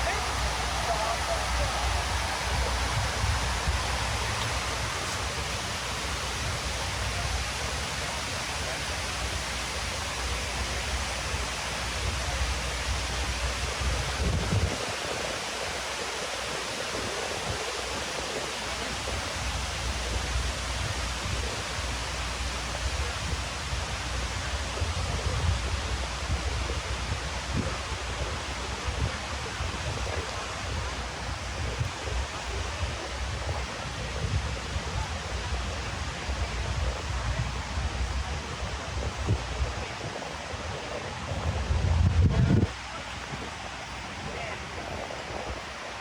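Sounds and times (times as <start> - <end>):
water falling down walls: 0.0 - 38.3.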